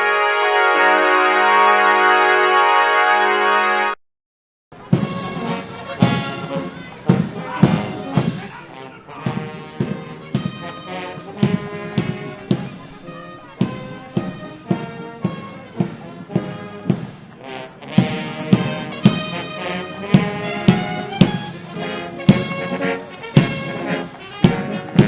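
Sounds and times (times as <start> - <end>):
trumpet fanfare: 0.0 - 4.0, 4.8 - 25.0.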